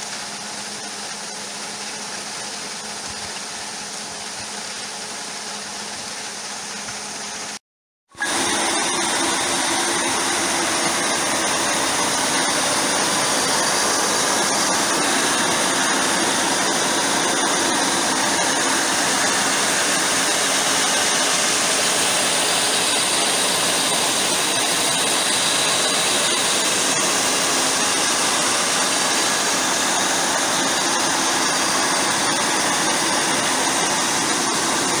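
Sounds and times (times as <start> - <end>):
grain augers running: 0.0 - 35.0.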